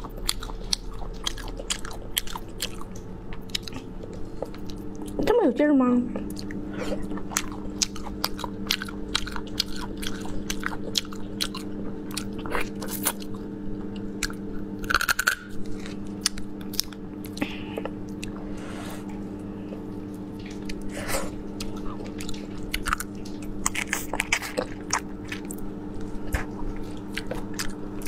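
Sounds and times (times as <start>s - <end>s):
wet chewing and sucking: 0.0s - 5.2s, 6.2s - 27.8s
steady low hum: 0.0s - 28.0s.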